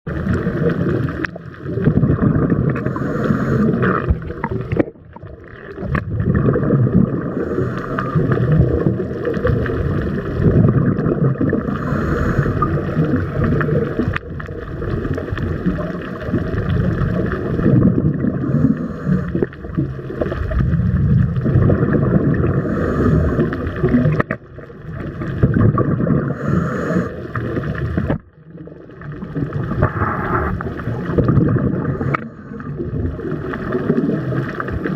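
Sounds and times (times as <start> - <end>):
muffled underwater rumble: 0.1 - 34.9.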